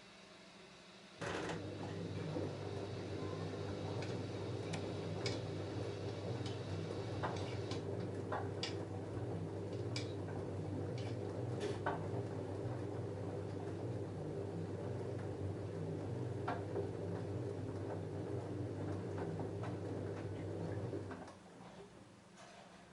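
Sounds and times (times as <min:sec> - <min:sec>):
washing machine motor hum: 0:01.0 - 0:22.1.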